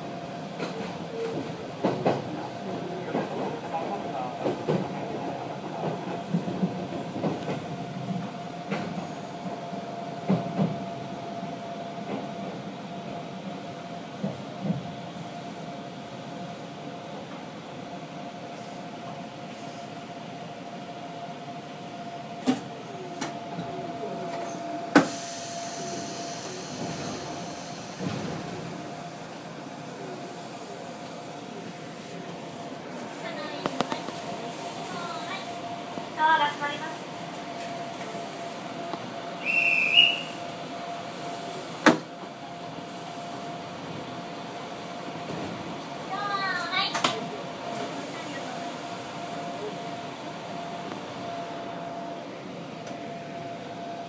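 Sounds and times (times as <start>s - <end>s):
train humming: 0.0s - 54.0s
train rumble: 0.0s - 54.0s.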